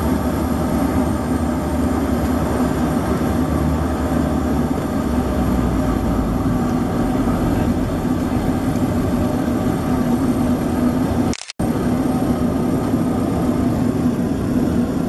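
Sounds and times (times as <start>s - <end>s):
propeller engines droning: 0.0s - 15.0s.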